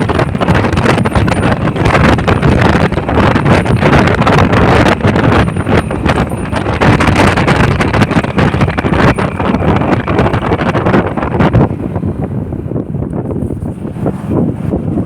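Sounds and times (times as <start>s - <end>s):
motorcycle running: 0.0s - 12.9s
wind buffeting microphone: 0.0s - 15.0s.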